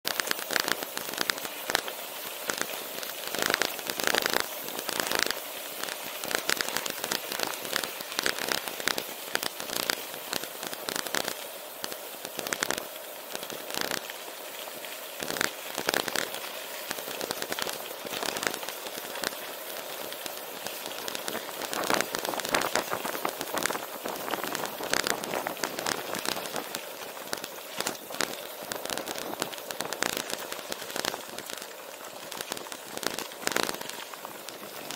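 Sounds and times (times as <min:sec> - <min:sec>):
bike tyres crackling on gravel: 0:00.1 - 0:34.9.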